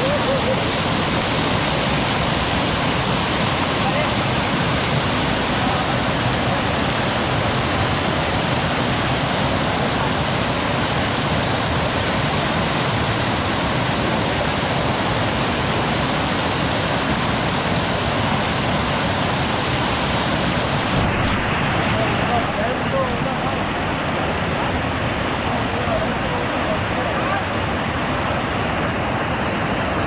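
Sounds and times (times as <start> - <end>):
rushing water: 0.0 - 30.0.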